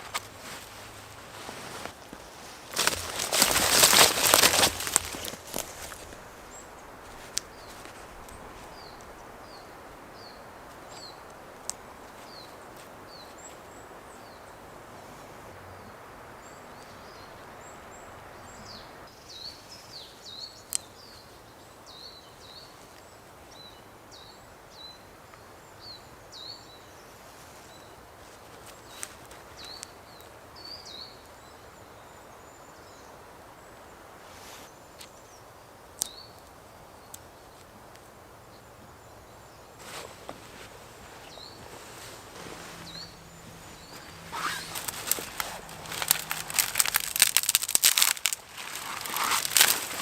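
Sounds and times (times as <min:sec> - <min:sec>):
steady outdoor hiss: 0:00.0 - 0:50.0
birds chirping: 0:02.1 - 0:50.0.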